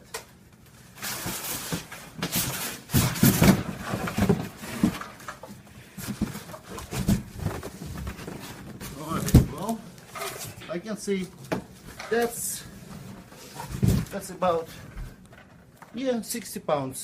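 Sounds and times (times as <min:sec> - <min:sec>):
cardboard and foam rustling: 0:00.7 - 0:16.0.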